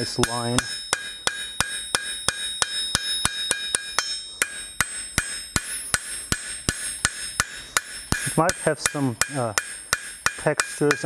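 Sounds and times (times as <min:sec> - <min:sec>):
anvil ringing: 0:00.0 - 0:11.0
hammer striking steel on anvil: 0:00.0 - 0:11.0.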